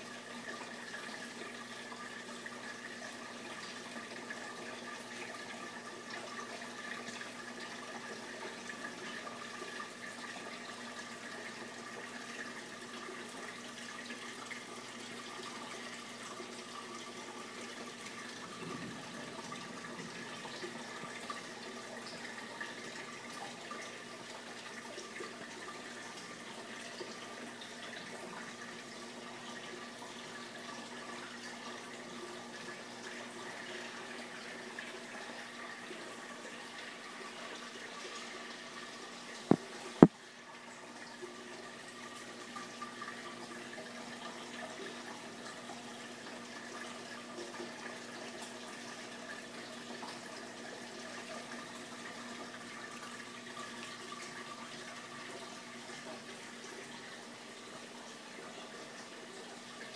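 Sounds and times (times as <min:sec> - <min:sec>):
water running and trickling: 0:00.0 - 0:59.9.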